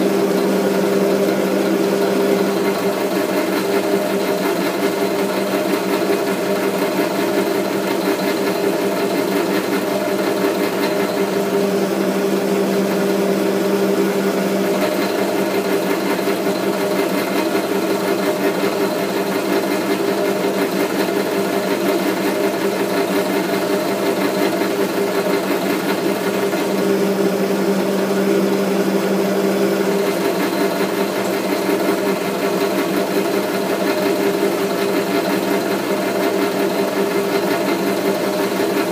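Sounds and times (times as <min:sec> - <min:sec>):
lathe tool cutting thread: 0:00.0 - 0:38.9
metal lathe motor humming: 0:00.0 - 0:38.9.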